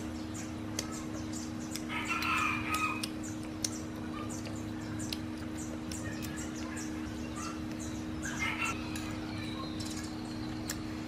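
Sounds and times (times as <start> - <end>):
birds chirping: 0.0 - 11.0
low hum: 0.0 - 11.0.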